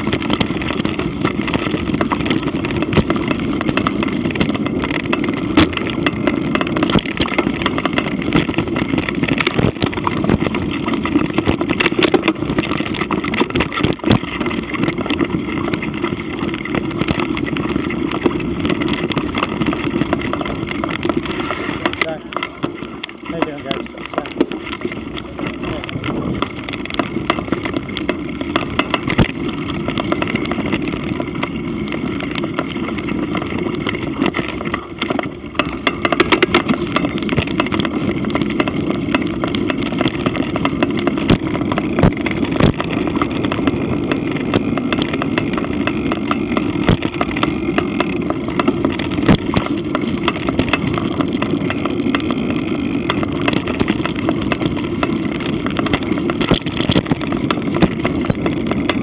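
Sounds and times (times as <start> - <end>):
bike clicking and knocking: 0.0 - 59.0
tyres and wind rushing: 0.0 - 59.0.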